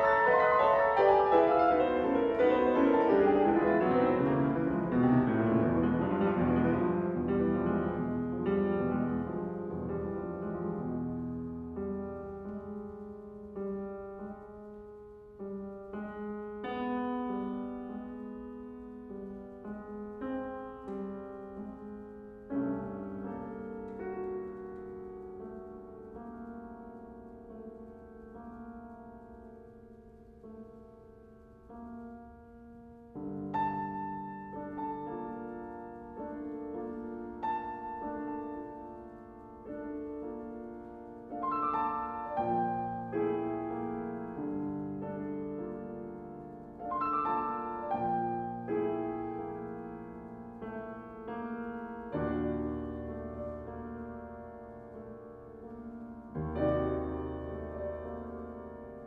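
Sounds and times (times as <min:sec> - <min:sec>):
solo piano playing slow chords: 0:00.0 - 0:59.0.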